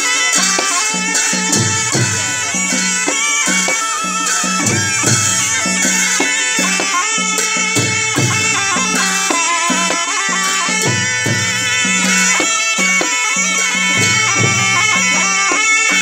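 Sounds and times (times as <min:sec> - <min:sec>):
hand drums beating: 0:00.0 - 0:16.0
shawms playing reedy melody: 0:00.0 - 0:16.0.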